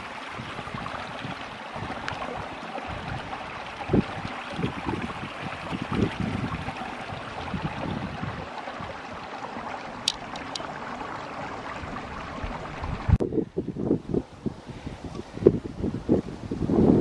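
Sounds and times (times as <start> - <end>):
creek water flowing: 0.0 - 17.0
wind buffeting microphone: 0.0 - 17.0.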